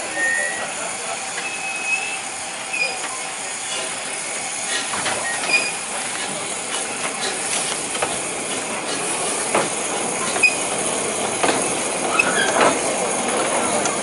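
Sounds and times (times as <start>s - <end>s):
steam locomotive hissing: 0.0s - 14.0s
wheels clicking over rail joints: 2.7s - 14.0s.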